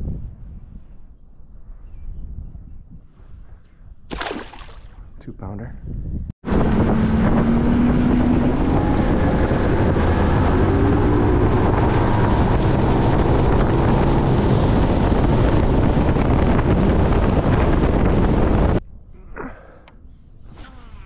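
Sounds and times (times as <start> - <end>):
wind noise on microphone: 0.0 - 19.2.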